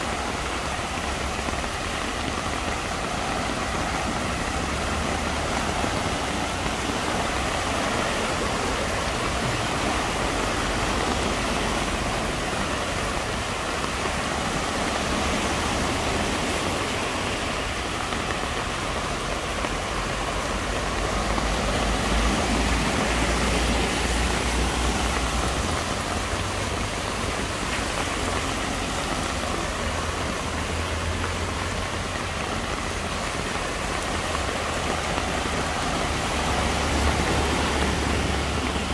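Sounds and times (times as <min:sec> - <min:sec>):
car engines running low: 0:00.0 - 0:38.9
heavy rain falling: 0:00.0 - 0:38.9
wheels churning through water: 0:00.0 - 0:38.9.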